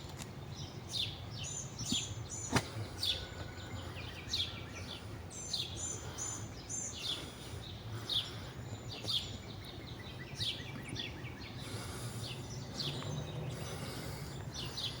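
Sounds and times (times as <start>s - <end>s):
songbirds chirping: 0.0s - 15.0s
steady low background rumble: 0.0s - 15.0s.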